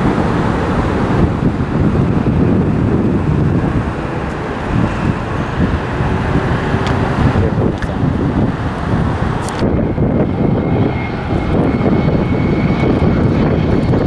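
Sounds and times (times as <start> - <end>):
busy road traffic: 0.0 - 14.0
wind rumbling on microphone: 0.0 - 14.0.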